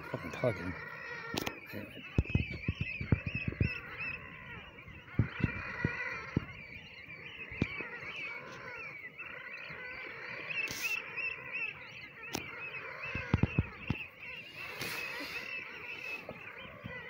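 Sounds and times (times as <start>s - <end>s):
waterbirds squawking: 0.0s - 17.0s.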